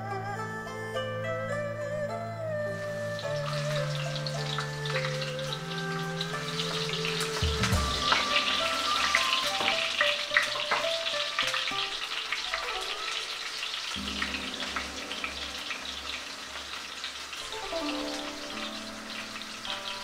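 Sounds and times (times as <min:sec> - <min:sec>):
onions sizzling in hot oil: 0:02.8 - 0:20.0.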